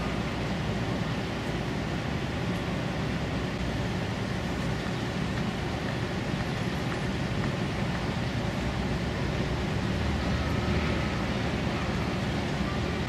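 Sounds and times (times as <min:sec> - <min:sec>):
ship passing low rumble: 0:00.0 - 0:13.0.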